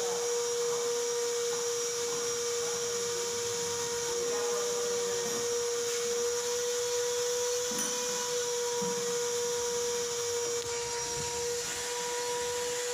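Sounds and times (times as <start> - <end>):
machine whine: 0.0 - 12.9.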